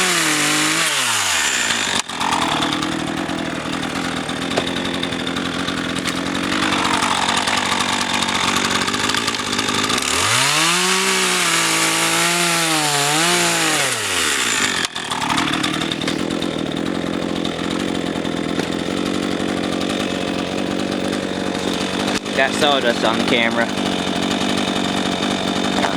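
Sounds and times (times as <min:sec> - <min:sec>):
chainsaw cutting logs: 0:00.0 - 0:25.9.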